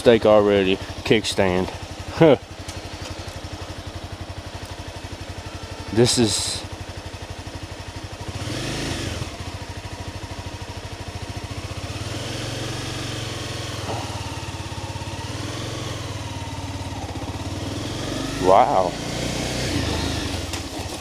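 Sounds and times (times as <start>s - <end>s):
motorcycle engine pulsing: 0.1s - 21.0s.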